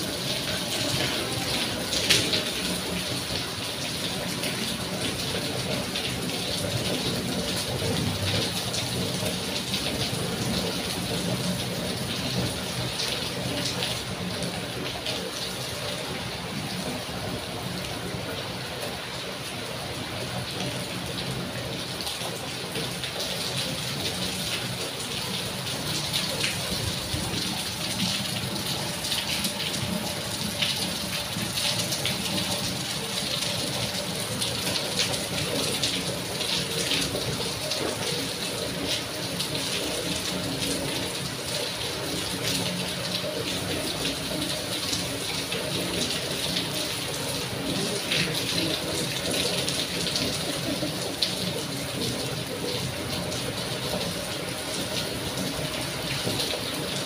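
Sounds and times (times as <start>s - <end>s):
rain splashing on paving: 0.0s - 57.0s.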